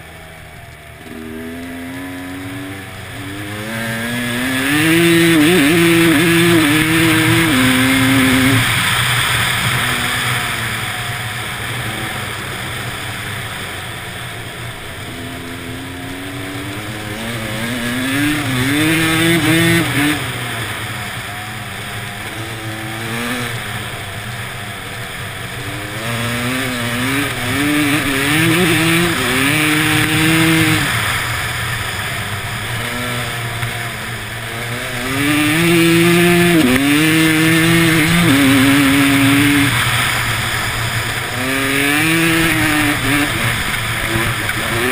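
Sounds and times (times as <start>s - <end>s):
vehicle engine revving: 0.0s - 44.9s.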